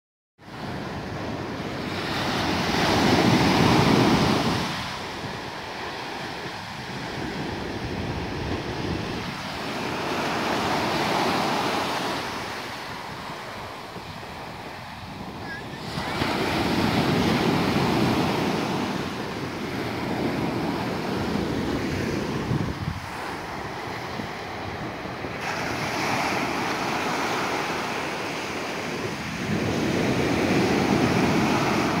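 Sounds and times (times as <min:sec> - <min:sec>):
waves breaking: 0:00.5 - 0:32.0
wind buffeting microphone: 0:00.5 - 0:32.0.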